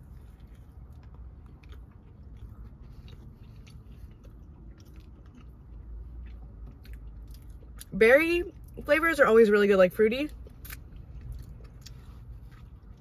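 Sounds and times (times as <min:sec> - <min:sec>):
person chewing: 0:00.0 - 0:07.9, 0:10.3 - 0:13.0
low steady hum: 0:00.0 - 0:13.0.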